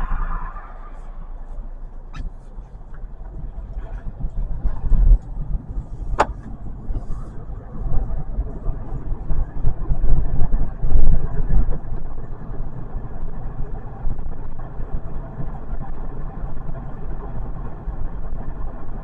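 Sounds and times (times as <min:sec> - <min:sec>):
car cabin rumble while driving: 0:00.0 - 0:19.0.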